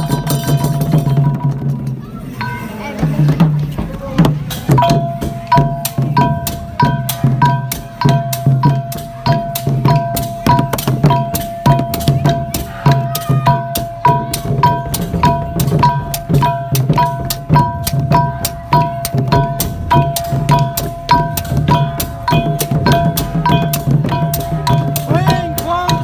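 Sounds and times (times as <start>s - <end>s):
hand drums beaten with palms: 0.0s - 26.0s
small hand cymbals: 4.5s - 26.0s
wooden clappers: 4.5s - 26.0s
ringing metallic tone: 4.8s - 26.0s.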